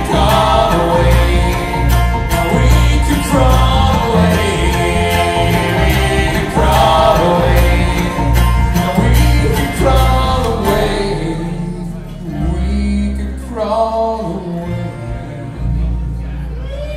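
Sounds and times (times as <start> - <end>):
bluegrass string band playing: 0.0 - 16.9.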